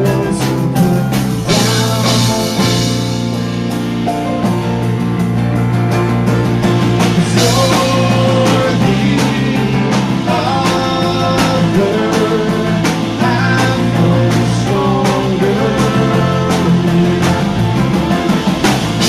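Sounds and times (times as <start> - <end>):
drums beating: 0.0 - 19.0
live rock band playing: 0.0 - 19.0.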